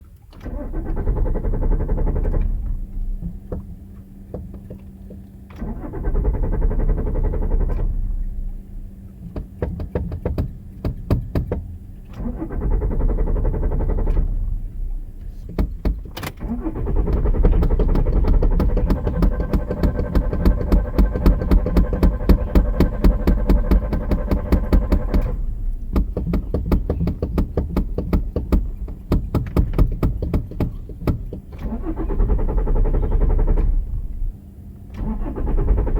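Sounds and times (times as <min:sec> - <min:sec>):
car starter cranking engine: 0:00.0 - 0:35.9.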